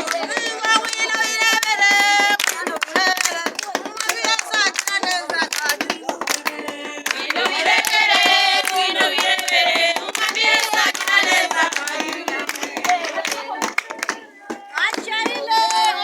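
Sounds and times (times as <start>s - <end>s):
group of people singing: 0.0s - 16.0s
rhythmic hand clapping: 0.0s - 16.0s.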